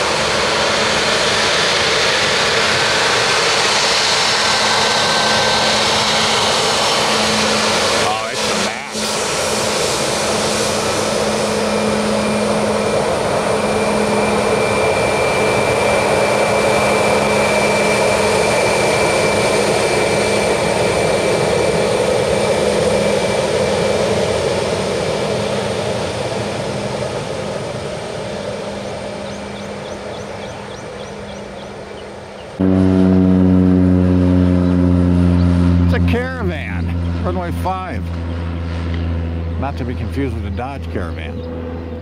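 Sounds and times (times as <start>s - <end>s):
jet engines roaring with whine: 0.0s - 42.0s.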